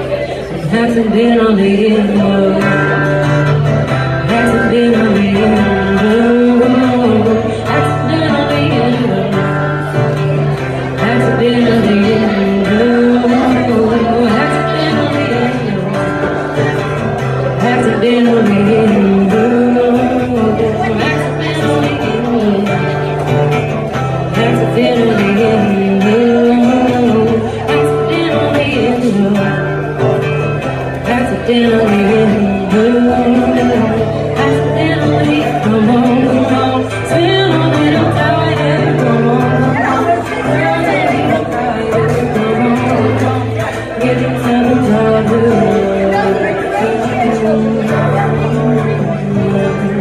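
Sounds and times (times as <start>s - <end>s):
acoustic guitar: 0.0s - 50.0s
woman singing: 0.0s - 50.0s.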